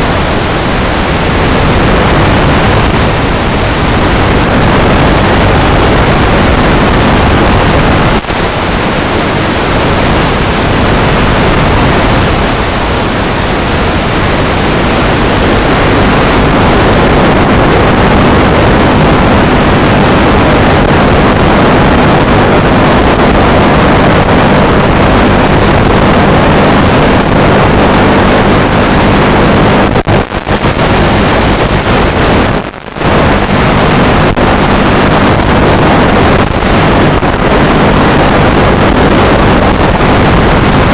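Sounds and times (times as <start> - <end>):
wind and propellers rushing: 0.0 - 40.9.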